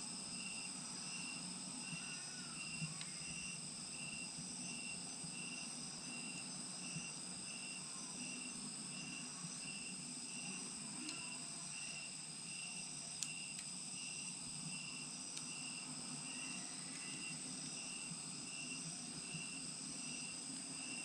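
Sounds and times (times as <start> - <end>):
crickets chirping: 0.0 - 21.0
insect chirping in pulses: 0.1 - 21.0.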